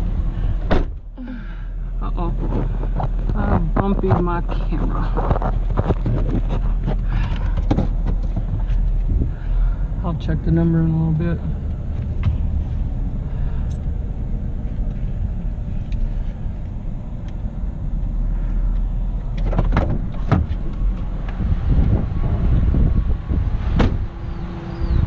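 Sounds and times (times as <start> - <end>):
motor vehicle rumble: 0.0 - 25.0.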